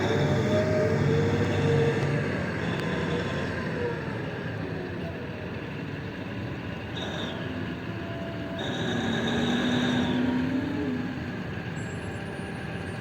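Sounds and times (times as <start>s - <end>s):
heavy machinery engines running: 0.0s - 13.0s.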